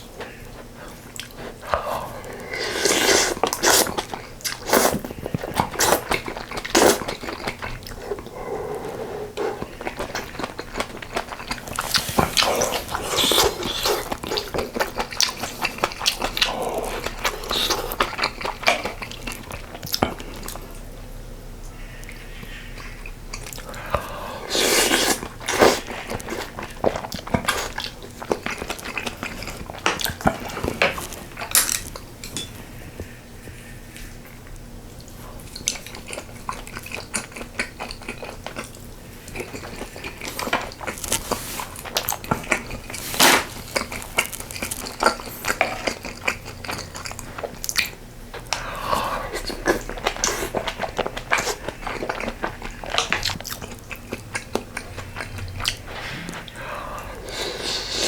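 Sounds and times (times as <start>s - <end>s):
chewing: 0.0s - 21.0s, 21.6s - 58.0s.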